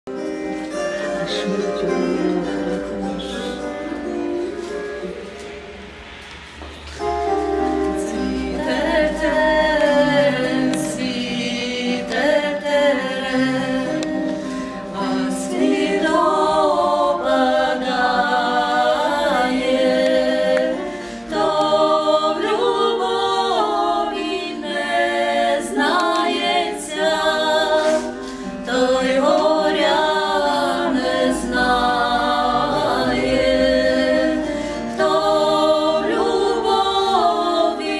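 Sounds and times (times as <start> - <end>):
women singing a cappella: 7.0 - 37.9.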